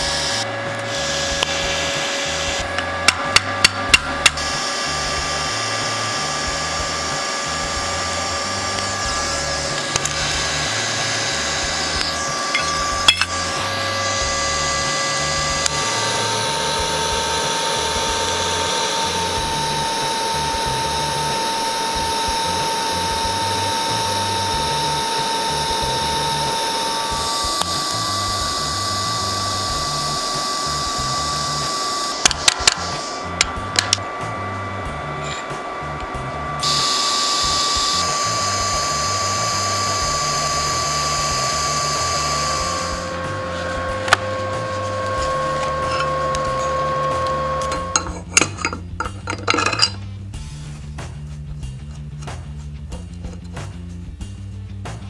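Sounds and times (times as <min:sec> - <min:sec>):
background music with held notes: 0:00.0 - 0:55.0.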